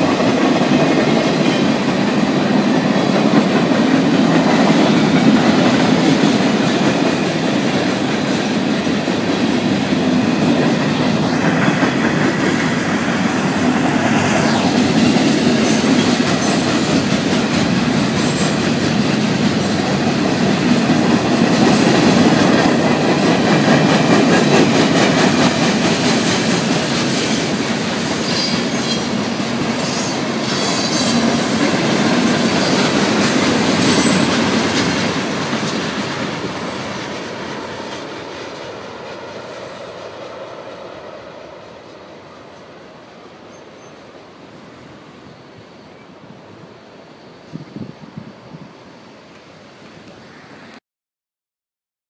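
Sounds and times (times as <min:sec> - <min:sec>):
train wheels clattering over rails: 0:00.0 - 0:41.8.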